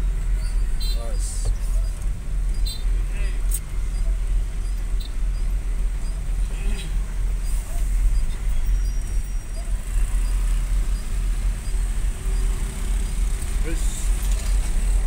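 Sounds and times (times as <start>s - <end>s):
large vehicle engine rumble: 0.0s - 15.0s
road noise: 0.0s - 15.0s.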